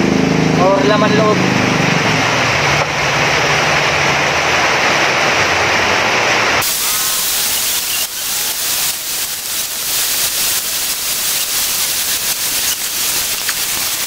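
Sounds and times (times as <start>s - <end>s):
loud hissing noise: 0.0s - 14.0s.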